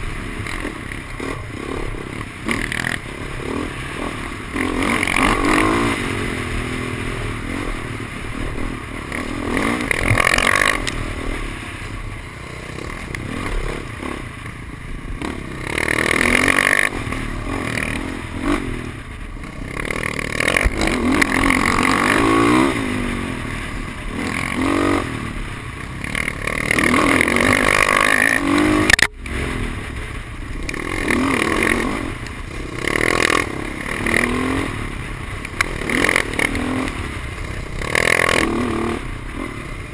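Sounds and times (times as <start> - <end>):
dirt bike engine revving: 0.0 - 39.9
rattling and rushing noise: 0.0 - 39.9.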